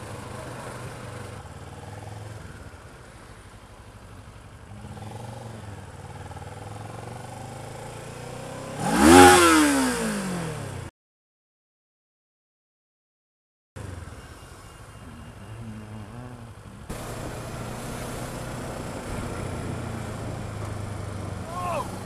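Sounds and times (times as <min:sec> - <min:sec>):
motorcycle engine running: 0:00.0 - 0:10.9, 0:15.1 - 0:22.0.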